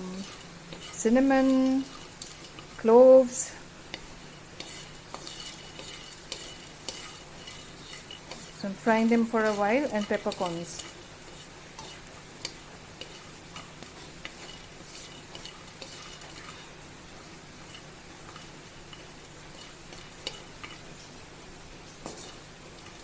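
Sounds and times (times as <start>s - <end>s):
spices sizzling in a pan: 0.0s - 23.0s.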